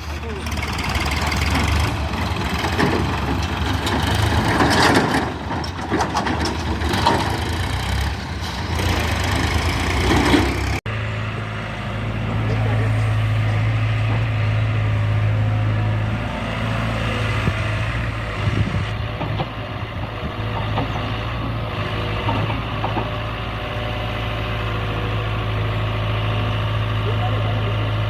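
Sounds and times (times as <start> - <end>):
diesel tractor engine idling: 0.0 - 28.0.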